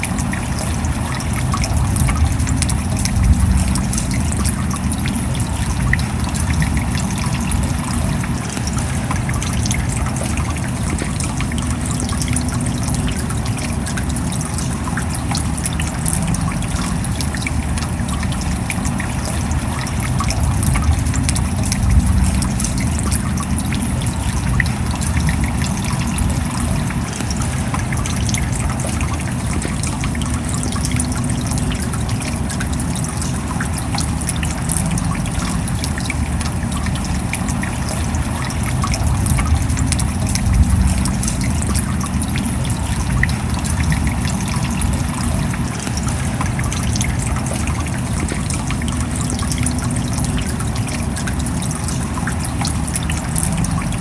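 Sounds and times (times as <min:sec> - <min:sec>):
steady rain: 0:00.0 - 0:54.0
water drops dripping: 0:00.0 - 0:54.0
water trickling: 0:00.0 - 0:54.0.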